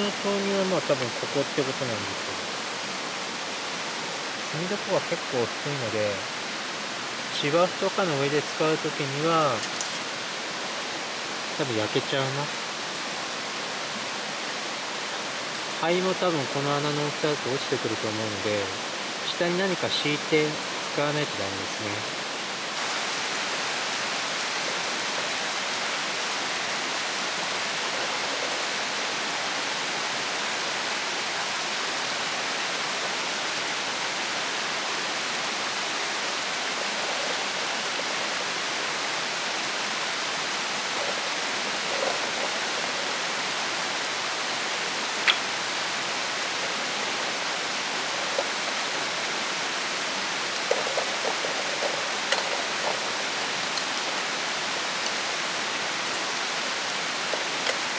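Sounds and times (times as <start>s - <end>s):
steady rushing hiss: 0.0s - 57.9s.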